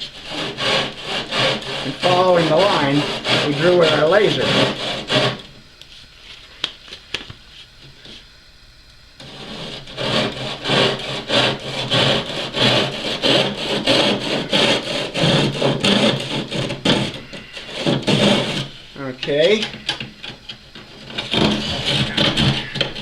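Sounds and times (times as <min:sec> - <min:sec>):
hand saw cutting wood: 0:00.0 - 0:05.5, 0:09.2 - 0:23.0.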